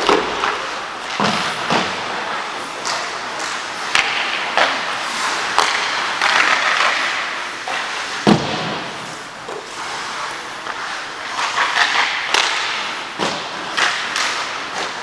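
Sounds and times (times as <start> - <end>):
hockey sticks and puck knocking: 0.0 - 9.8, 10.6 - 15.0
skate blades scraping ice: 0.0 - 15.0.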